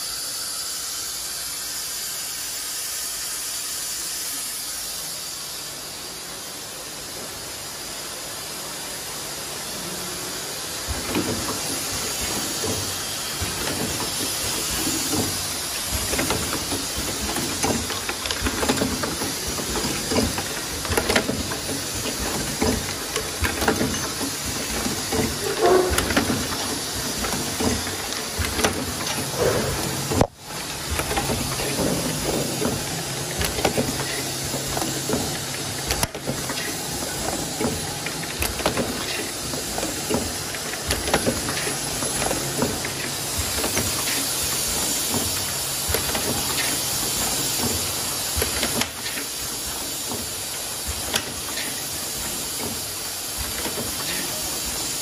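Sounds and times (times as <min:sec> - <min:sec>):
machine clicks and knocks: 0:10.9 - 0:55.0.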